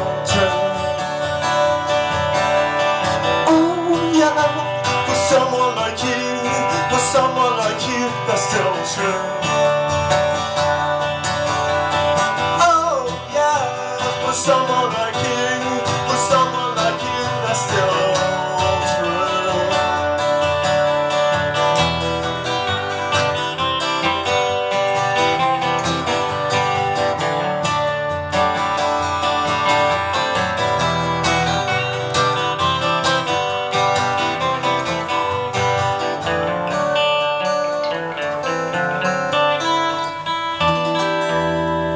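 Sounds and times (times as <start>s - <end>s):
acoustic guitar strumming chords: 0.0s - 41.9s
guitar picking: 0.0s - 41.9s.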